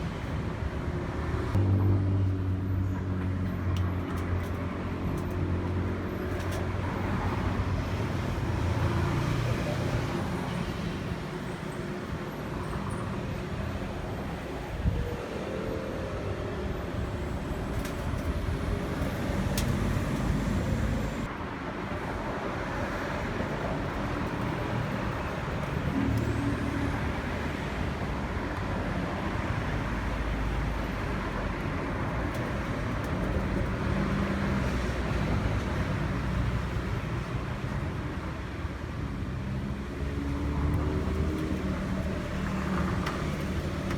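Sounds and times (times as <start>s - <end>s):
car engine and road drone: 0.0s - 43.9s.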